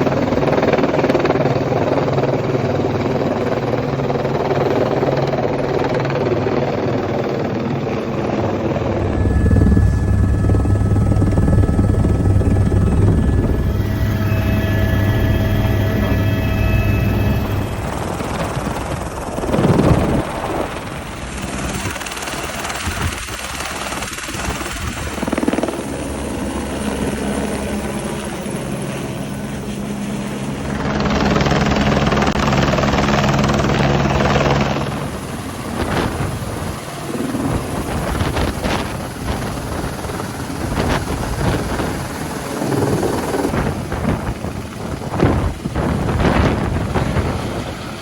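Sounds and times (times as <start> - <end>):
helicopter flying close by: 0.0 - 48.0.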